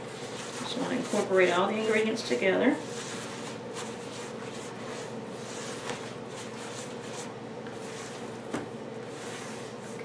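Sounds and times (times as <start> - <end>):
spoon stirring thick batter: 0.0 - 10.0.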